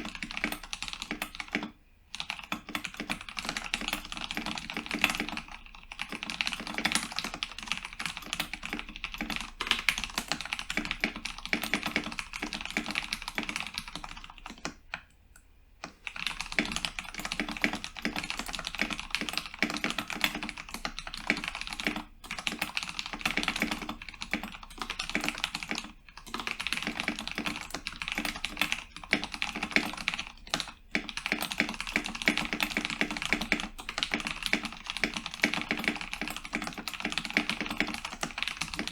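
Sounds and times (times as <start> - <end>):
fast typing on mechanical keyboard: 0.0 - 15.1, 15.9 - 38.9.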